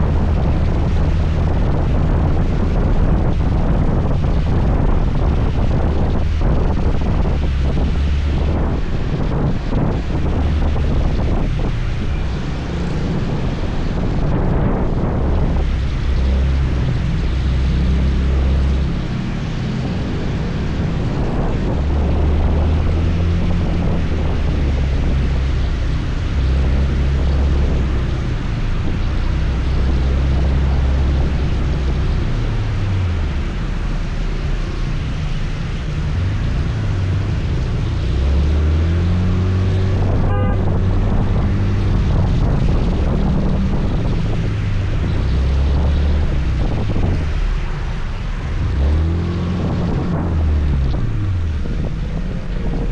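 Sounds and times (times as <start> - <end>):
wind noise on microphone: 0.0 - 52.9.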